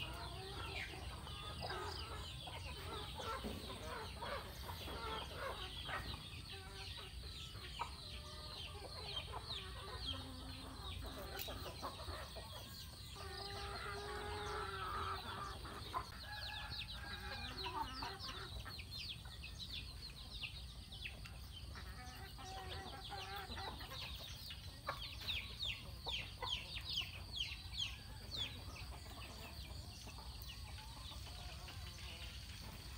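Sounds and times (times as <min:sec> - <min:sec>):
chickens clucking softly: 0:00.0 - 0:32.9.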